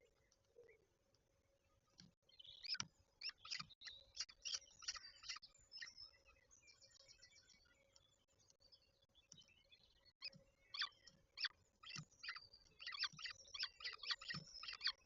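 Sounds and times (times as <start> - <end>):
bird chirps and trill: 2.2 - 15.0.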